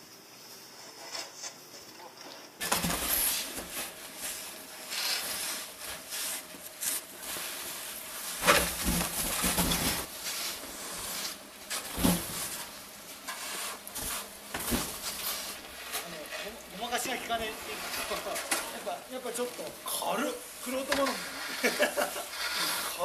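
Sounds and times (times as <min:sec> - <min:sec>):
snow scrapers crunching snow: 0:02.6 - 0:23.0.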